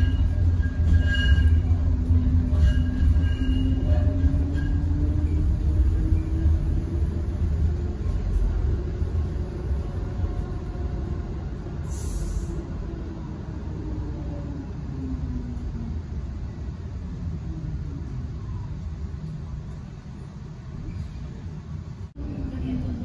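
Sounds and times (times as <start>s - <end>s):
tram rumbling on track: 0.0s - 23.0s.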